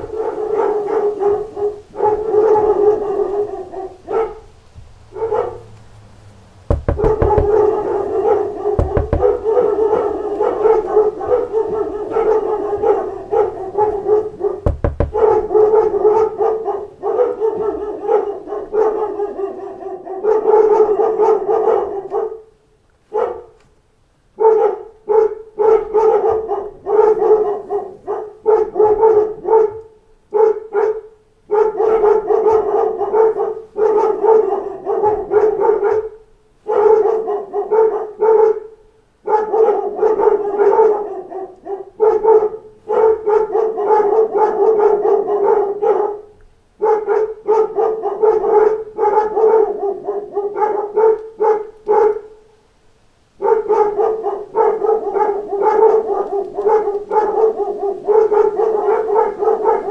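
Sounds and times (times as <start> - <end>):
dogs barking: 0.0 - 5.9, 6.7 - 23.6, 24.4 - 52.5, 53.4 - 59.9.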